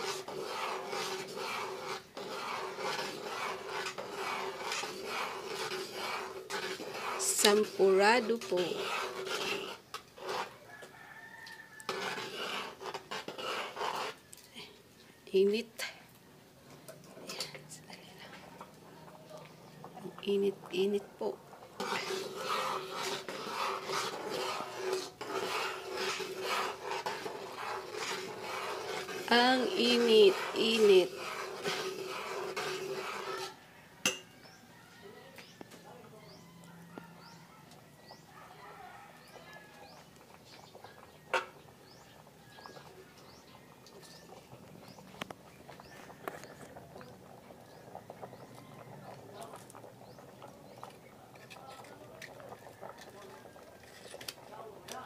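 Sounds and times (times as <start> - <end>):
metal spoon scraping a pot: 0.0 - 14.5, 16.7 - 34.6, 39.2 - 55.0.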